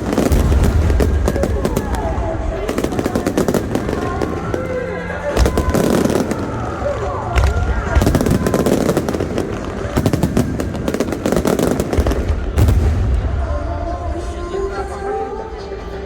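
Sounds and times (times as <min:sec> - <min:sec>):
heavy firework booms: 0:00.0 - 0:14.5
fireworks bangs and crackles: 0:00.0 - 0:15.3.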